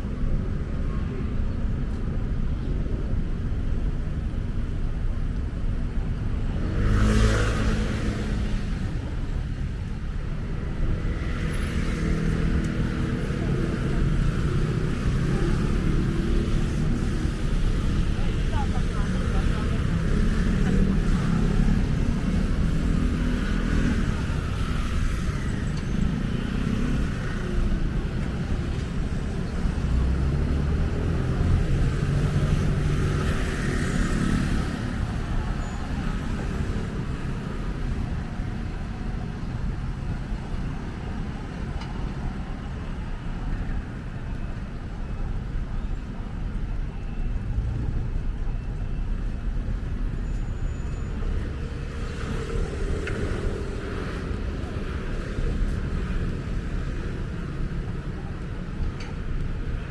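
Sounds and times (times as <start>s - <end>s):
faint voices of passers-by: 0.0s - 59.9s
road traffic rumble: 0.0s - 59.9s.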